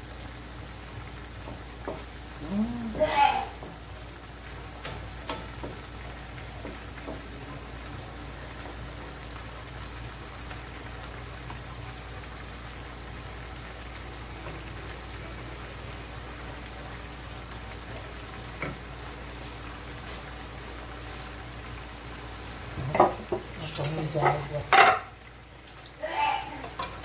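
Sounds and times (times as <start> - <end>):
broth bubbling in a pan: 0.0 - 27.0.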